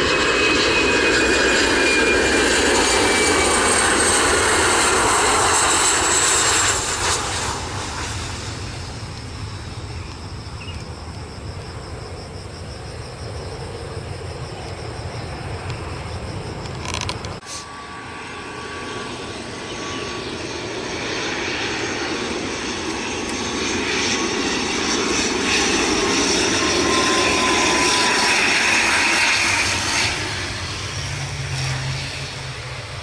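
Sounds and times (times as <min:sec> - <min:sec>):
jet engines whining: 0:00.0 - 0:33.0.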